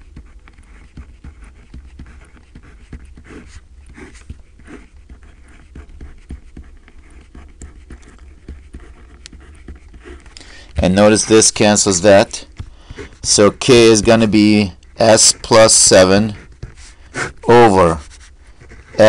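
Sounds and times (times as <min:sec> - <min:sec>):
low steady hum: 0:00.0 - 0:19.0
pen scratching on paper: 0:00.0 - 0:19.0.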